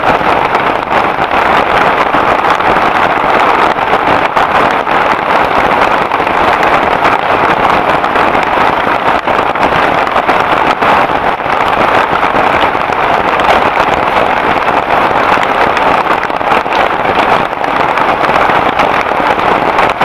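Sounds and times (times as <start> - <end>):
heavy rain downpour: 0.0 - 20.0.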